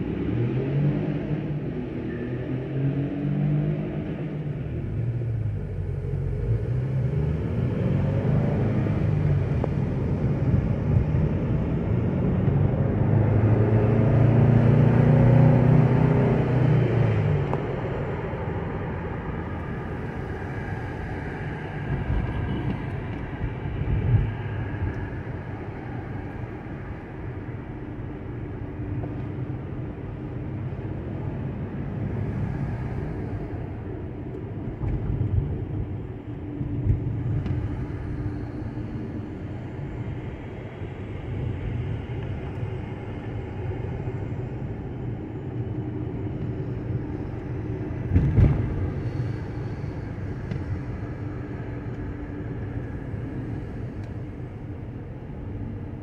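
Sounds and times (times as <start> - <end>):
car engine and road rumble: 0.0 - 56.0
engine hum: 0.0 - 56.0.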